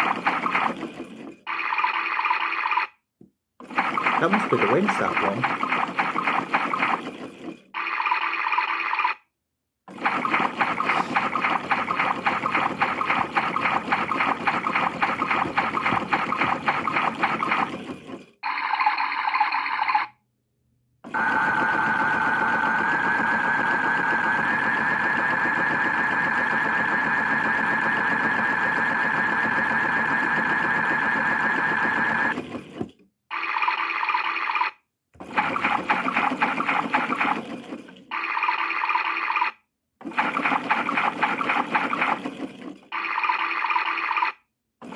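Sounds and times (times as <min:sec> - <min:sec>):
toy washing machine sound effects: 0:00.0 - 0:03.0, 0:03.6 - 0:09.3, 0:09.9 - 0:20.2, 0:21.1 - 0:44.9.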